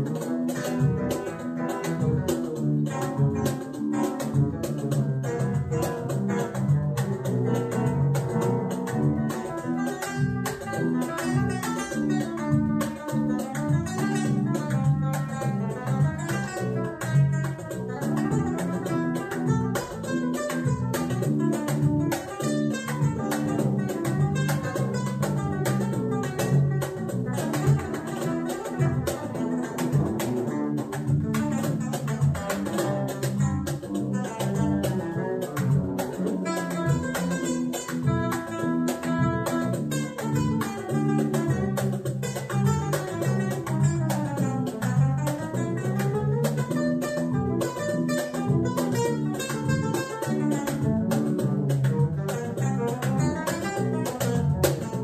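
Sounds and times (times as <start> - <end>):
fast plucked acoustic guitar: 0.0 - 55.0.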